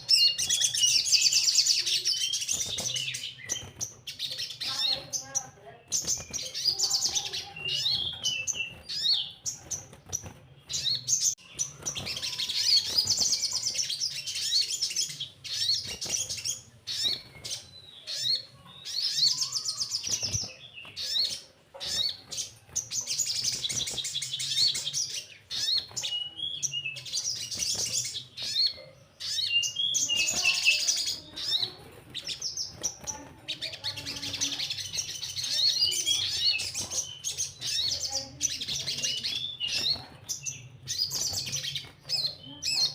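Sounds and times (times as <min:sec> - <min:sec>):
bird twittering trills: 0:00.0 - 0:42.9.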